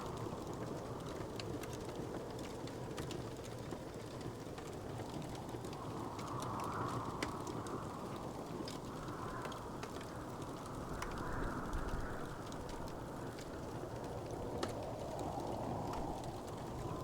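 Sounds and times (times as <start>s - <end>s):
fire popping: 0.0s - 17.0s
low rushing hiss of fire: 0.0s - 17.0s
wood fire crackling: 0.0s - 17.0s.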